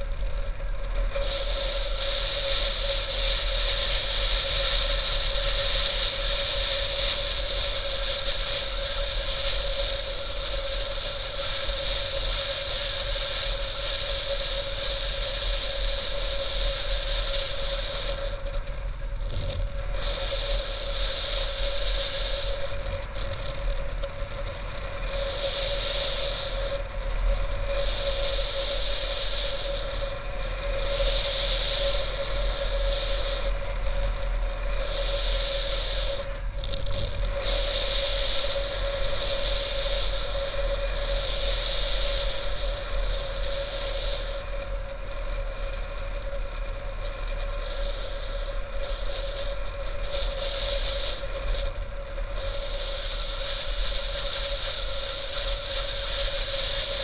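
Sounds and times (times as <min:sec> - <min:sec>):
motorcycle engine running: 0:00.0 - 0:57.0
wind rumbling on microphone: 0:00.0 - 0:57.0.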